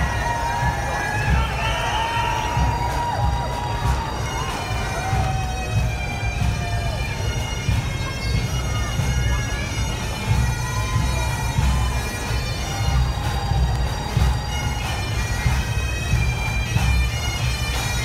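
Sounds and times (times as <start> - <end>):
bagpipes playing a tune: 0.0 - 18.0.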